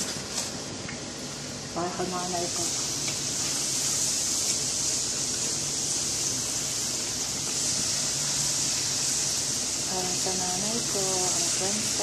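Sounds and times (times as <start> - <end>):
fries sizzling in hot oil: 0.0 - 12.0.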